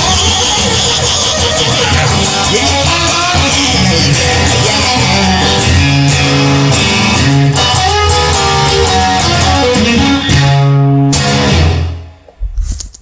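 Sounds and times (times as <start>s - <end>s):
rock song with electric guitar: 0.0s - 12.2s.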